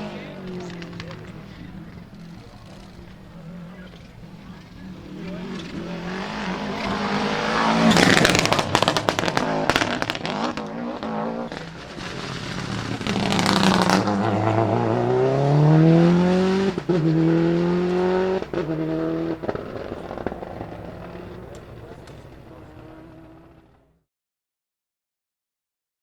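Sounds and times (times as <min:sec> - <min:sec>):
rally car engine bangs and crackles: 0:00.0 - 0:23.8
gear changes: 0:00.0 - 0:23.9
car engine accelerating: 0:00.0 - 0:24.0.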